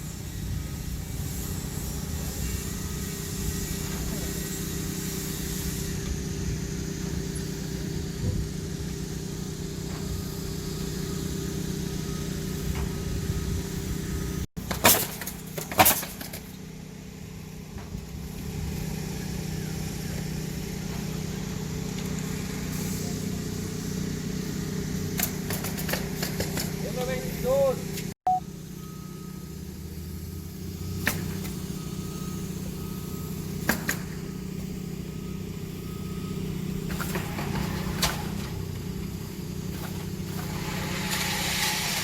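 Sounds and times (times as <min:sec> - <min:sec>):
vehicle engine hum: 0:00.0 - 0:42.0.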